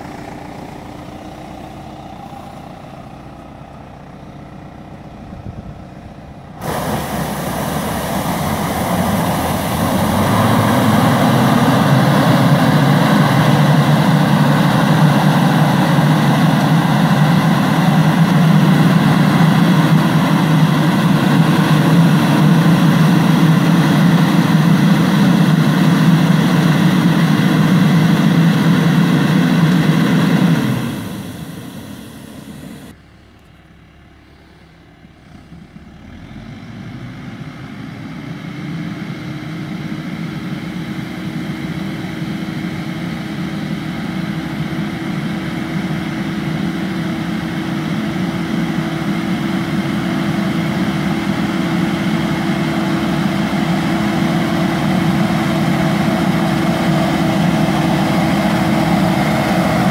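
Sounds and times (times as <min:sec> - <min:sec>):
orchard sprayer fan roaring: 0:00.0 - 0:59.9
tractor engine hum: 0:00.0 - 0:59.9.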